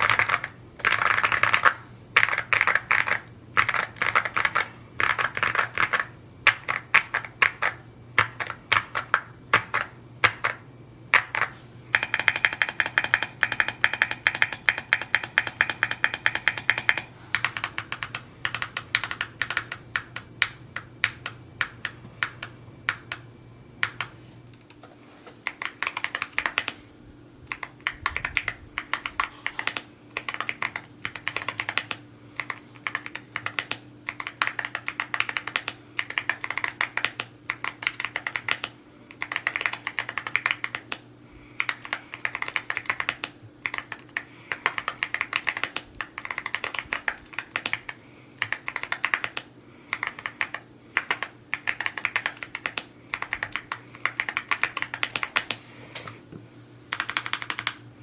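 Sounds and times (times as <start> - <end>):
mechanical keyboard typing: 0.0 - 23.2, 25.4 - 26.8, 27.5 - 55.6, 56.9 - 57.8.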